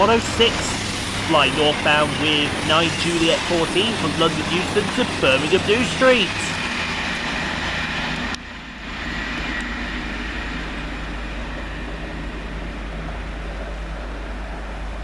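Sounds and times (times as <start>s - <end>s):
low hum: 0.0s - 15.0s
trains passing at speed: 0.0s - 15.0s.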